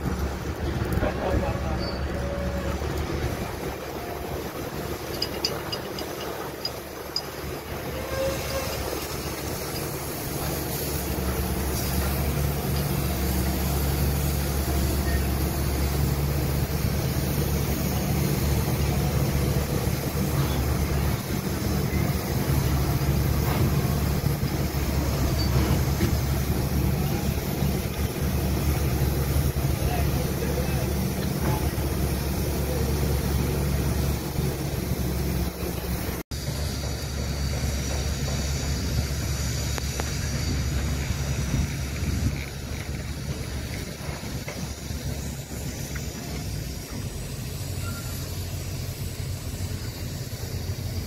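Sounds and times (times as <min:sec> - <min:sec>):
heavy machinery engine humming: 0:00.0 - 0:51.0.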